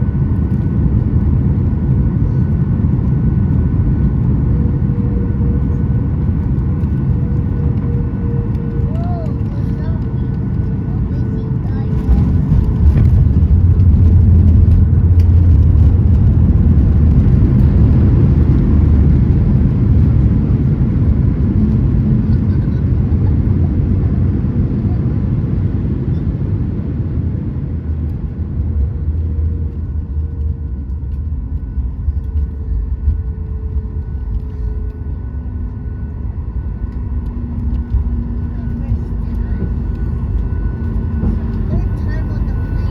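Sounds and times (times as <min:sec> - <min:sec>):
aircraft rolling on runway rumble: 0:00.0 - 0:42.9.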